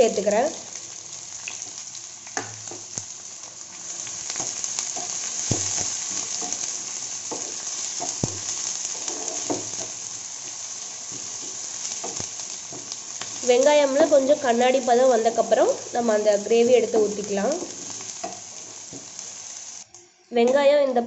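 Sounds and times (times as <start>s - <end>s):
food sizzling in hot oil: 0.0s - 20.6s.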